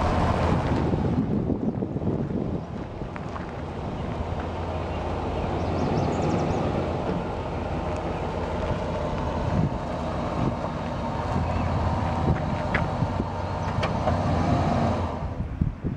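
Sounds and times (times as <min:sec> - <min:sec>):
wind on microphone: 0:00.0 - 0:07.3, 0:08.6 - 0:15.9
pickup truck engine humming: 0:00.0 - 0:15.9.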